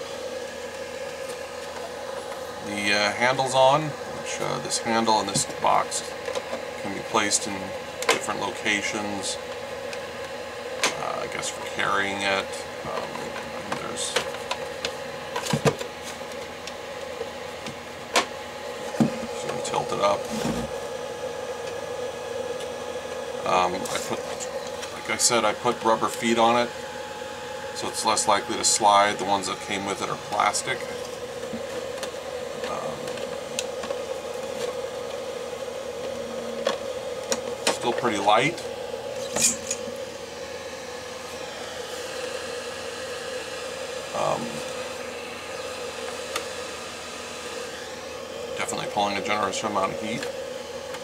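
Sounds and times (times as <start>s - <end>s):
small cooling fan hum: 0.0s - 51.0s.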